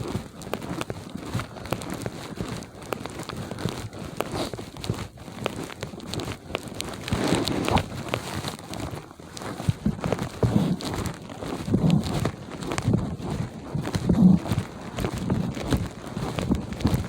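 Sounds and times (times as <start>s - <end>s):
footsteps crunching through snow: 0.0s - 17.0s.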